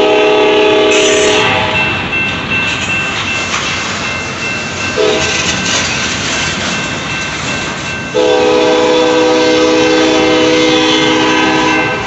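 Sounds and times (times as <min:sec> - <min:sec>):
freight train wheels rattling: 0:00.0 - 0:12.0.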